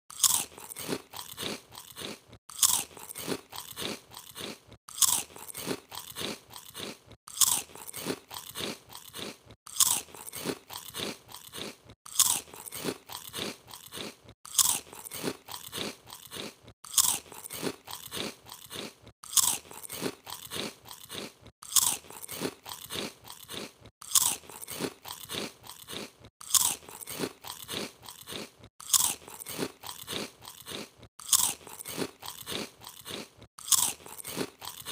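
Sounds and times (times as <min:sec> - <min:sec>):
potato chips crunching: 0:00.1 - 0:34.9.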